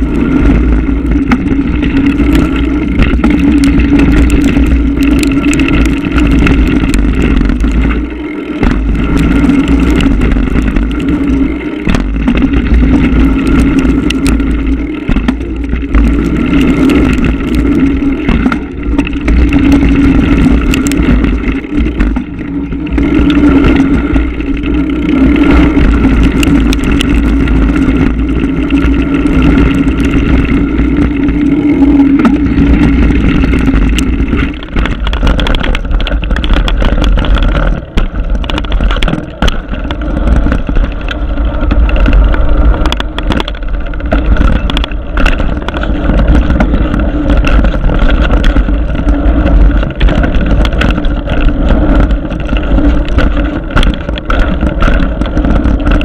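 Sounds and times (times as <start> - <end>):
bike rattling and knocking: 0.0 - 56.0
wind buffeting microphone: 0.0 - 56.0.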